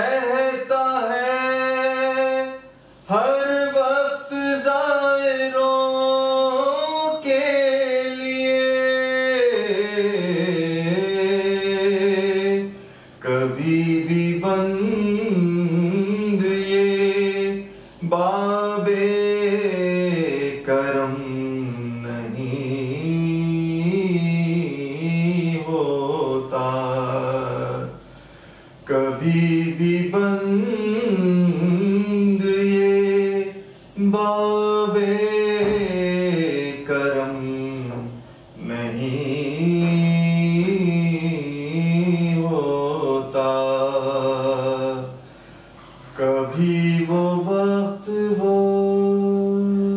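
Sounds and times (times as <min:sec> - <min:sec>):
man chanting devotional verse: 0:00.0 - 0:28.0, 0:28.8 - 0:45.2, 0:46.0 - 0:49.9
man singing slowly: 0:00.0 - 0:28.1, 0:28.8 - 0:45.2, 0:46.0 - 0:49.9.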